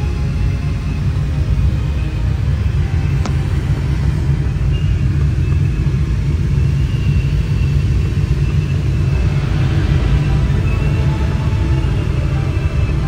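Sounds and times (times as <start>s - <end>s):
low rumble of airflow: 0.0s - 13.0s.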